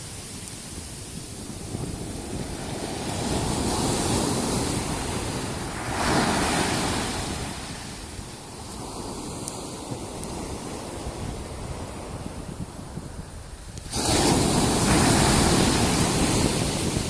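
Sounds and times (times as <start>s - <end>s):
wind on microphone: 0.0s - 17.0s
ocean waves breaking: 1.6s - 12.4s, 13.8s - 17.0s.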